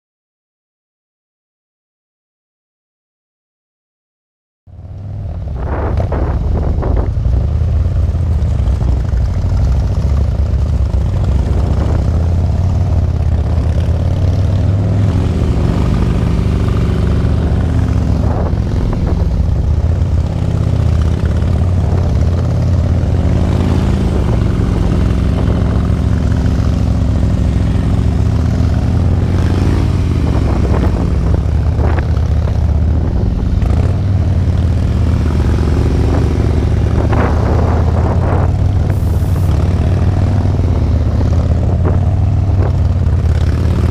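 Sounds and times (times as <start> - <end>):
motorcycle engine running: 4.7 - 43.9.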